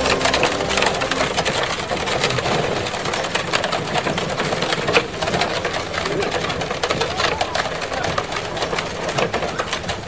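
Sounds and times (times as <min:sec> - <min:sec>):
cart wheels crunching on gravel: 0:00.0 - 0:10.0
horse hooves on gravel: 0:00.0 - 0:10.0.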